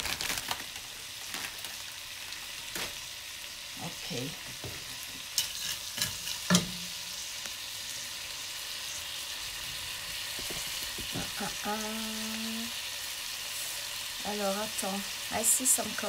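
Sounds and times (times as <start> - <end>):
peas sizzling in a pot: 0.0 - 16.0.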